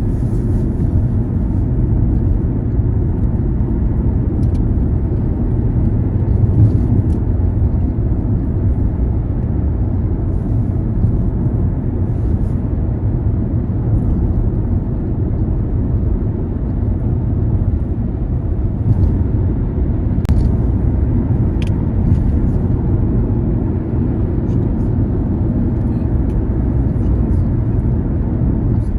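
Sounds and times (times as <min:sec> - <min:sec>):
car engine and tyre noise: 0:00.0 - 0:28.9.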